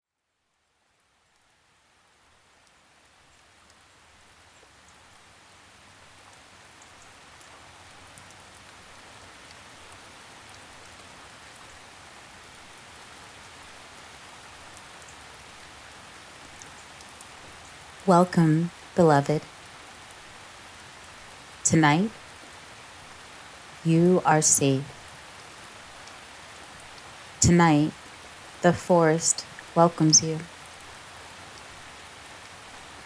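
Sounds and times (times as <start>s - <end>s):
hiss of rain: 0.3s - 33.0s
small drips and patters: 0.5s - 18.1s, 18.7s - 23.9s, 24.9s - 28.6s, 30.4s - 33.0s.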